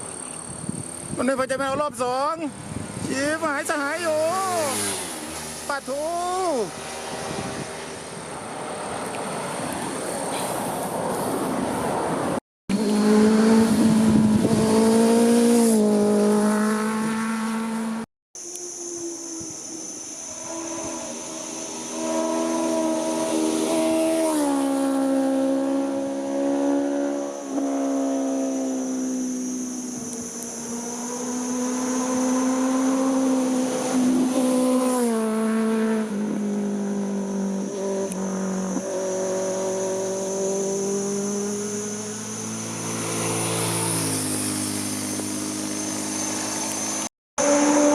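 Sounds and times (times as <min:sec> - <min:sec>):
motorcycle passing at high revs: 0:02.2 - 0:18.1, 0:18.8 - 0:47.9.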